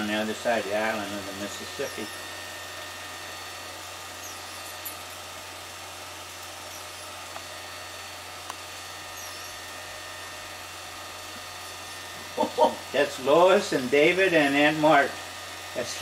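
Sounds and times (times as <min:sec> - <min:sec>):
movie projector motor whir: 0:00.0 - 0:16.0.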